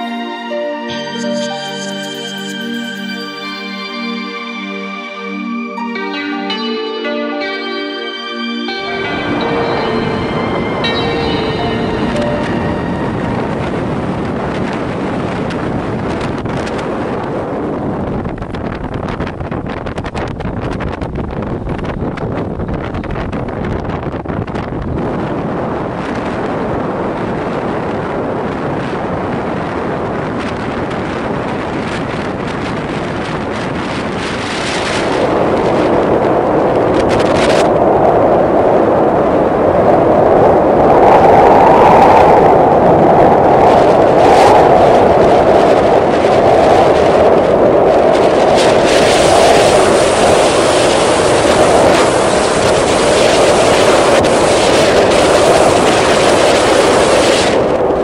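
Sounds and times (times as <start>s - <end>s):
wind blowing across microphone: 0.0s - 4.0s, 8.6s - 58.0s.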